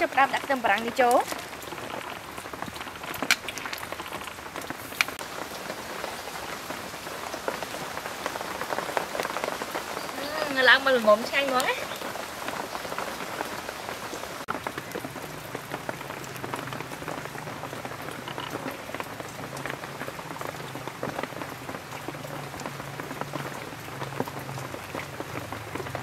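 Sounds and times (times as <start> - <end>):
rain pattering on roof: 0.0 - 26.0.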